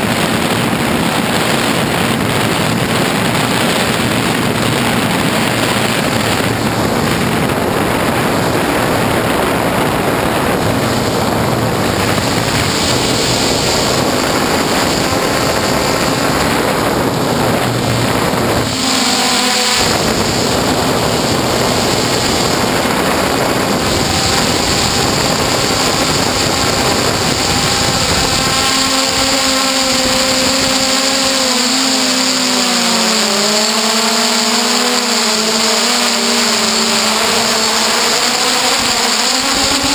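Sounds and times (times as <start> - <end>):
drone motors whining: 0.0 - 39.9
heavy rushing noise: 0.0 - 39.9.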